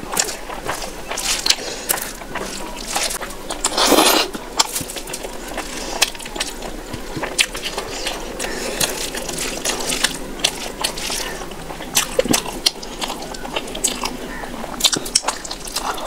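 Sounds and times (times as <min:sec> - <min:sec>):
close-up chewing: 0:00.0 - 0:16.0
hand squishing wet rice: 0:00.0 - 0:16.0.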